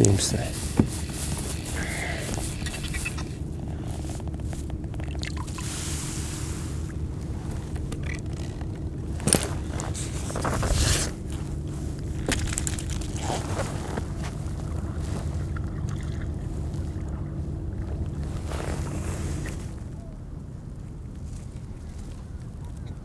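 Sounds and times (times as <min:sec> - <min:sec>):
water rushing or scraping: 0:00.0 - 0:19.8
steady low hum: 0:00.0 - 0:23.0.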